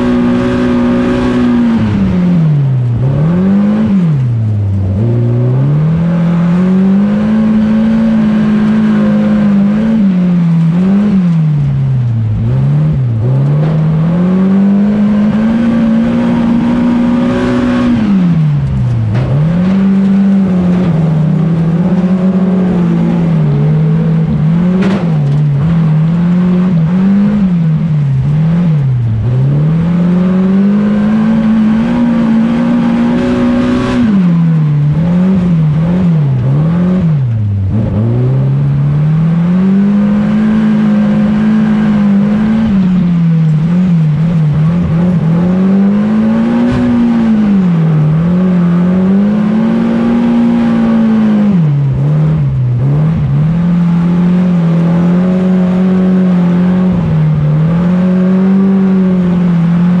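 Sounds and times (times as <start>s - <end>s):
racing car engine revving: 0.0s - 60.0s.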